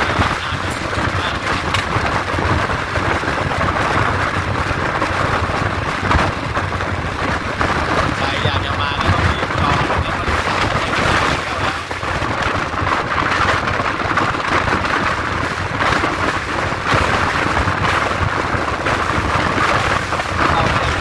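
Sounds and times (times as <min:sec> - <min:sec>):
train wheels rumbling on rails: 0:00.0 - 0:17.5, 0:18.2 - 0:21.0.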